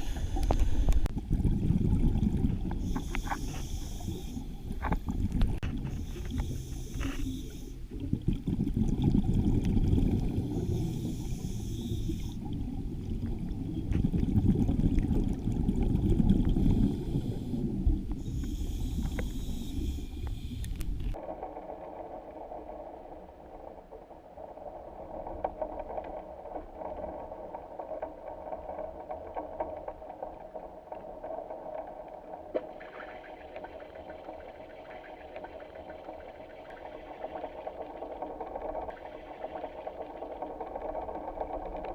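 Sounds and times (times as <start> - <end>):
low rumble of moving water: 0.0 - 41.9
steady hiss with faint crackles: 0.0 - 41.9.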